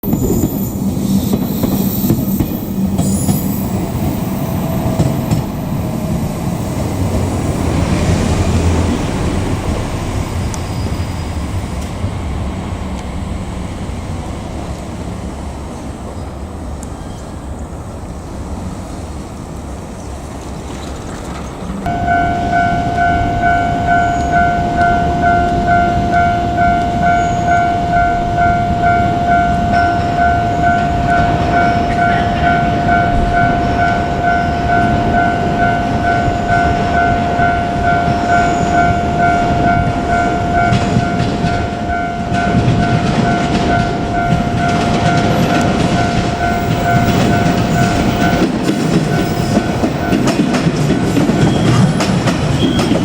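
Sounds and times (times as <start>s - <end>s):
level crossing warning bell: 0.0s - 12.4s, 21.8s - 53.0s
train wheel clatter: 0.0s - 17.5s, 20.0s - 21.9s, 29.8s - 53.0s.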